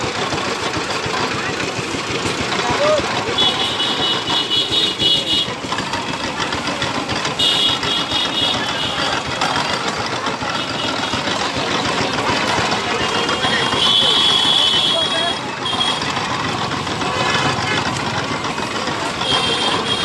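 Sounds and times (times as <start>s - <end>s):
juice machine chugging: 0.0s - 20.0s.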